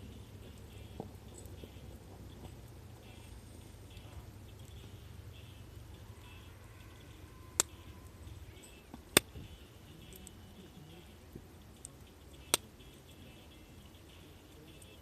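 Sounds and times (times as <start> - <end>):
burning wood popping: 0.0 - 6.1, 7.0 - 15.0
campfire crackling: 0.0 - 15.0.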